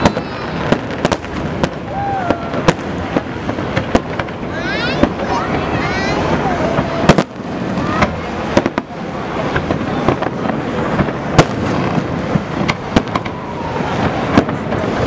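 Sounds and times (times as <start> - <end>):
firework shells bursting: 0.0 - 5.5, 6.1 - 15.0
continuous rushing background noise: 0.0 - 15.0.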